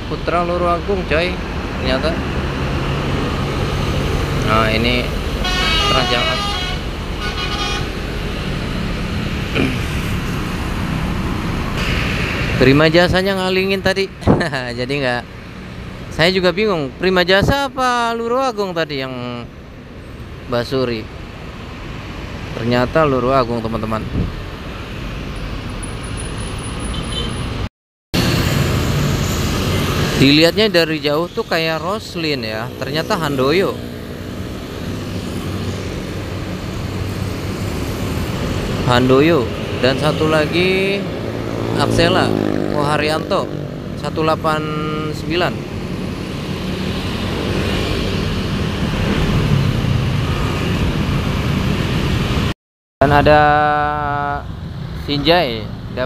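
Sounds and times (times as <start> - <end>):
motorbike engines: 0.0 - 19.6, 28.2 - 56.0
cars passing: 0.0 - 56.0
road traffic: 0.0 - 56.0.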